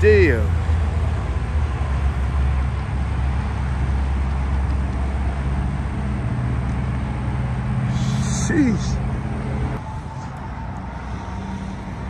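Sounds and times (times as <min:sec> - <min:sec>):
low engine hum: 0:00.0 - 0:12.0
road traffic noise: 0:00.0 - 0:12.0.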